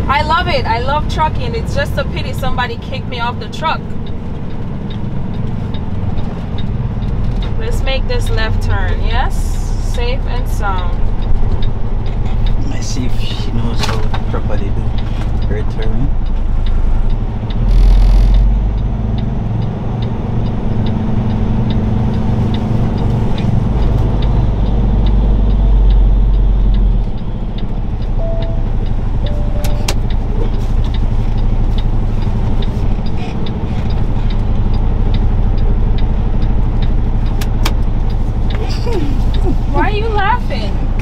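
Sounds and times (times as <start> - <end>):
diesel truck engine: 0.0 - 41.0
turn signal ticking: 0.0 - 41.0.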